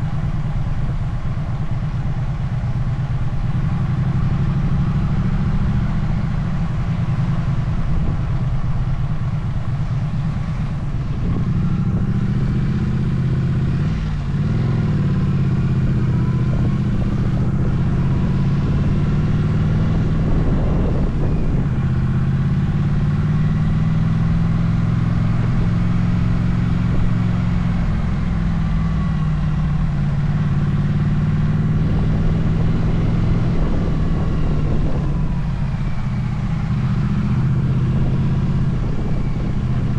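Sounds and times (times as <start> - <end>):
motorcycle engine revving: 2.2 - 39.9.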